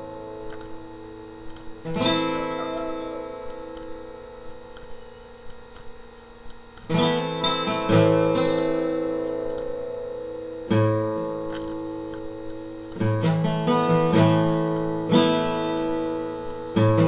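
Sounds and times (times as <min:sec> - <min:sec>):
acoustic guitar chords strummed: 0:00.0 - 0:17.0.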